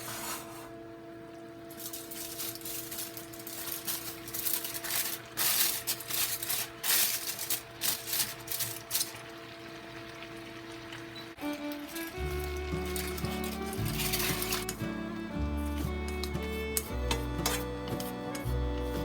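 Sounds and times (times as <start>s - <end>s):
rustling and scraping kitchen work: 0.0s - 19.0s.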